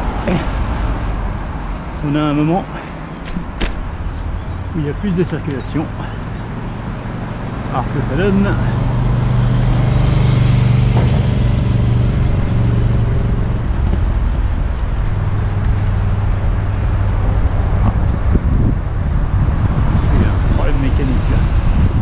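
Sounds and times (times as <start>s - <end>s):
rush of traffic: 0.0s - 22.0s
vehicle engine humming: 0.0s - 22.0s.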